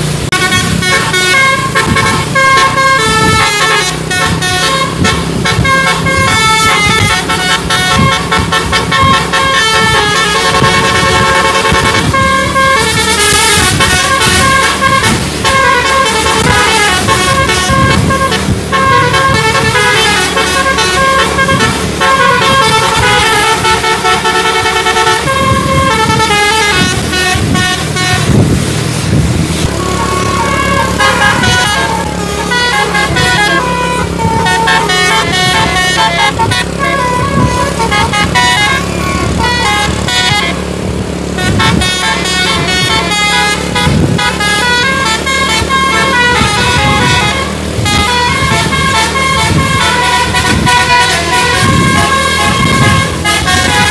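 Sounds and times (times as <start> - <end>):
bus engine hum: 0.0 - 53.9
musical bus horns: 0.0 - 53.9.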